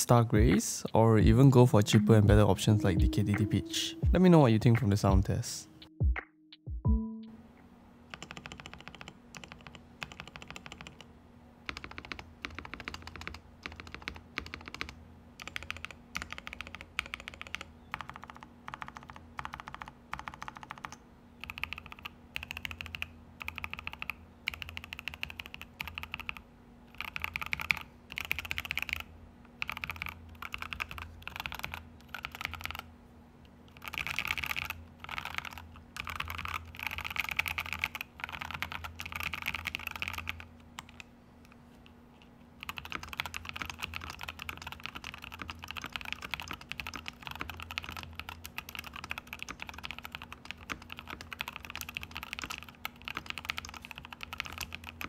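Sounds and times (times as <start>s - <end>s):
mechanical keyboard typing: 8.1s - 32.9s, 33.7s - 41.0s, 42.6s - 55.0s.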